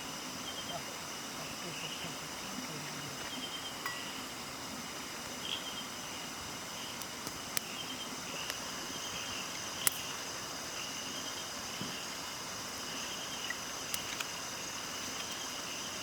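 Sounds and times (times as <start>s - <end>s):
crickets and insects chirring: 0.0s - 16.0s.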